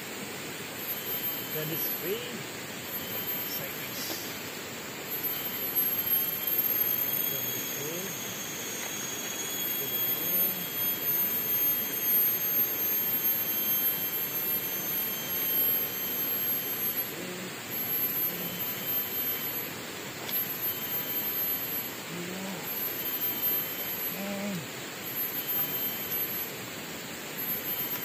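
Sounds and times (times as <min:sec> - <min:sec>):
very high whine: 0:00.0 - 0:28.0.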